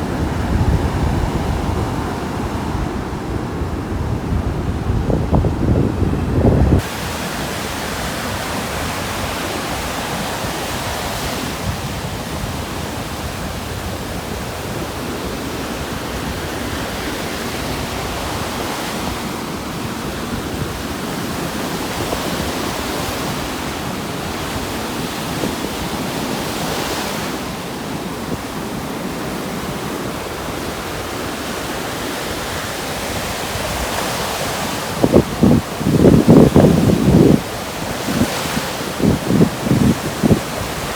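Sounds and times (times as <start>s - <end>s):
surf on a beach: 0.0s - 40.9s
wind: 0.0s - 40.9s
wind buffeting microphone: 0.0s - 40.9s.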